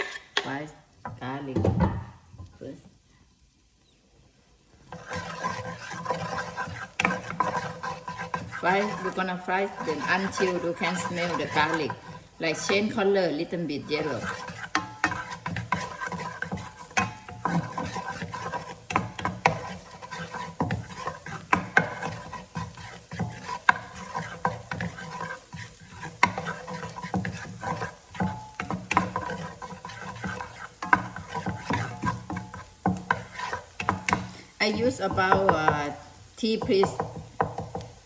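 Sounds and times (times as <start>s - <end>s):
utensil scraping a pan: 0.0s - 0.6s, 4.8s - 38.0s
garlic sizzling in oil: 2.2s - 38.0s.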